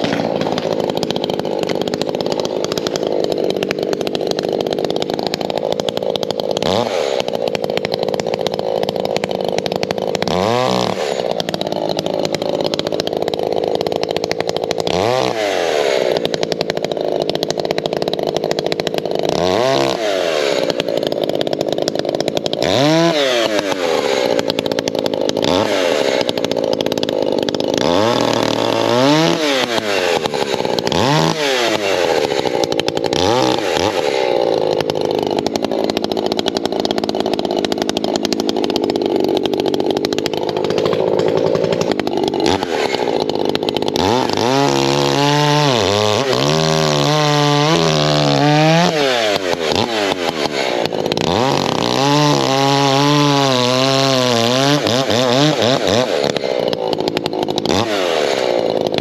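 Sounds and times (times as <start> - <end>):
chainsaw cutting logs: 0.0 - 59.0
chainsaw revving: 0.0 - 59.0.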